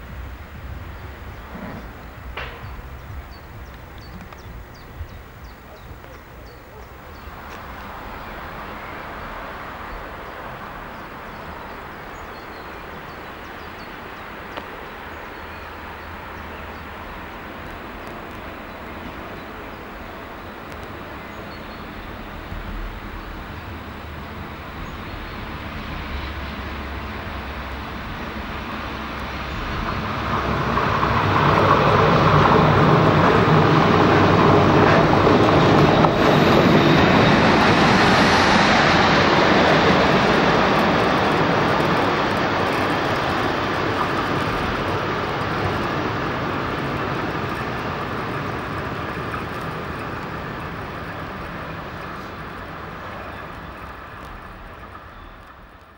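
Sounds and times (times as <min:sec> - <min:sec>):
train passing: 0:00.0 - 0:55.9.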